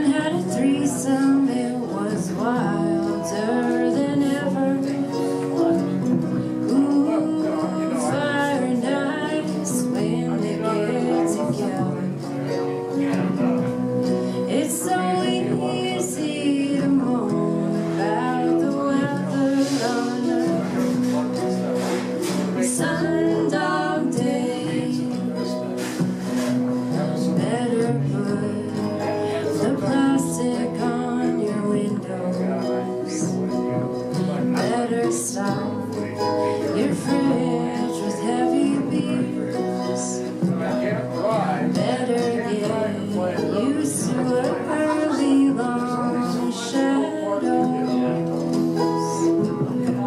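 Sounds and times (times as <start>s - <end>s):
acoustic guitar: 0.0s - 50.0s
person singing: 0.0s - 50.0s
upright bass: 0.0s - 50.0s.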